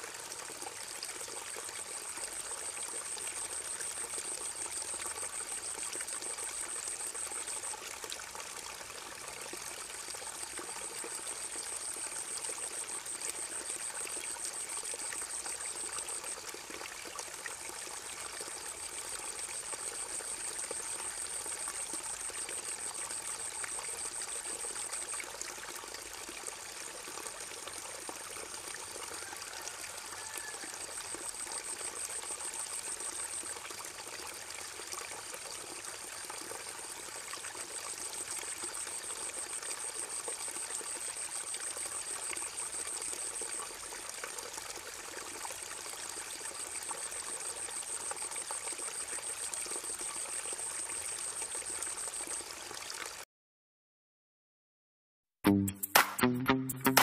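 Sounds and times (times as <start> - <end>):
trickling water: 0.0 - 53.2.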